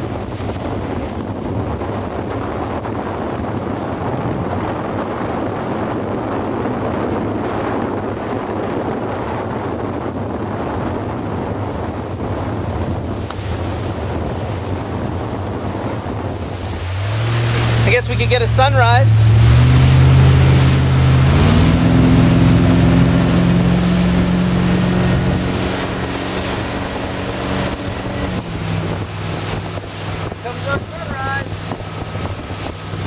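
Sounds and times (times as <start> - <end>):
motorboat engine drone: 0.0 - 33.0
water rushing past hull: 0.0 - 33.0
wind buffeting microphone: 0.0 - 33.0.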